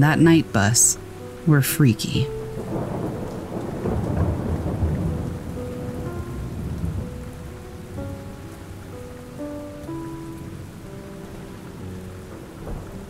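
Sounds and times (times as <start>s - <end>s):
rain hiss: 0.0s - 13.0s
rolling thunder: 2.4s - 13.0s.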